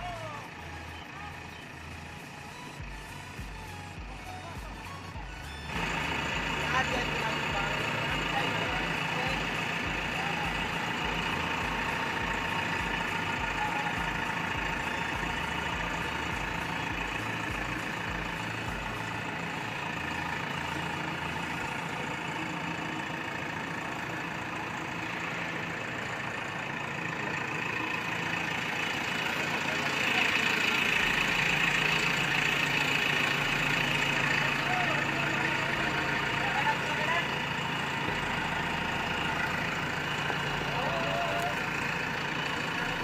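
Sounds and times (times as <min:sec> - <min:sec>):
diesel engine throbbing: 0:00.0 - 0:43.0.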